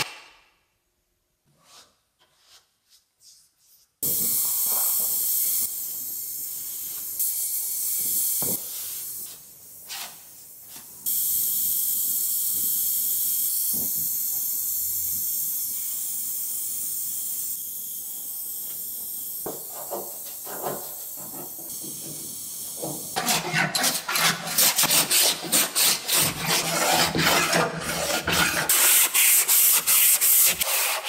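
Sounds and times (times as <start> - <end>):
gas torch flame hissing: 4.0 - 31.0.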